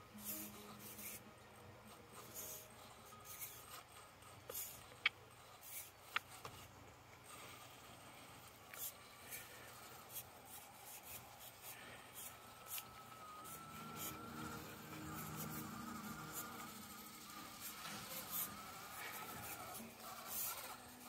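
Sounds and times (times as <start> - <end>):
small electric motor whining: 0.0 - 21.0.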